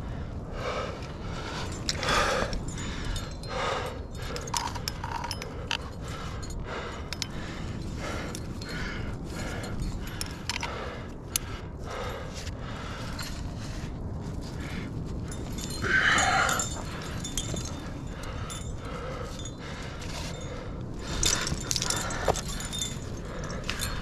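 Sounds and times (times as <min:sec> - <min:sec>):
person breathing hard: 0:00.0 - 0:24.0
metal carabiners clinking: 0:00.9 - 0:13.8, 0:14.4 - 0:24.0.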